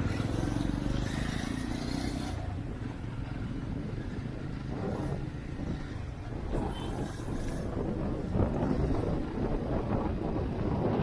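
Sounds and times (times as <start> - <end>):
motorcycle engine rumble: 0.0 - 11.0
road noise: 0.0 - 11.0.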